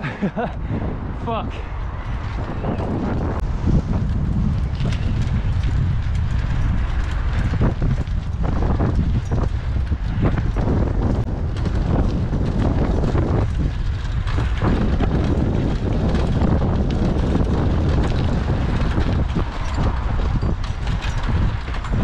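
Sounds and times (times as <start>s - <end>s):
bicycle tyre rumble: 0.0s - 22.0s
wind buffeting microphone: 0.0s - 22.0s.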